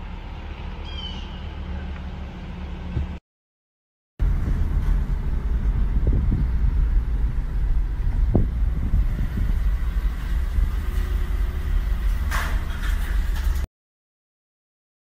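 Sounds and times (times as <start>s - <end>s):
car interior road rumble: 0.0s - 3.2s, 4.2s - 13.7s.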